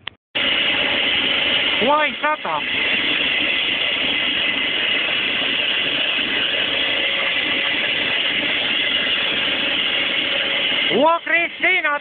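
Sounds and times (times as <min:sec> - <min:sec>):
loud mechanical whir with hum: 0:00.4 - 0:12.0.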